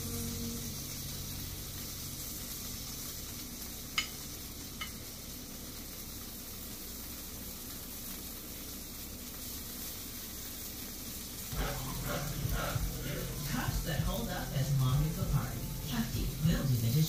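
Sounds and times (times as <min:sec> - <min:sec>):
food sizzling on a grill: 0:00.0 - 0:17.0.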